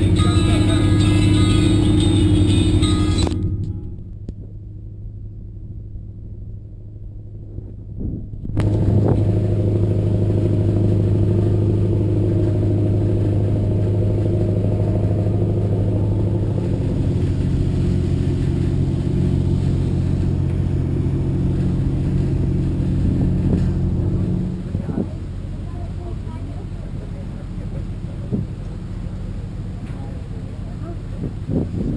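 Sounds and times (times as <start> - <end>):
boat diesel engine droning: 0.0 - 31.9.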